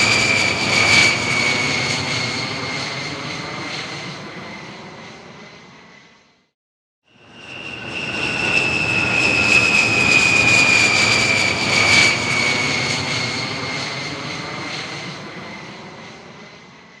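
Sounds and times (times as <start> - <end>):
fighter jet flying by: 0.0 - 6.4, 7.1 - 17.0.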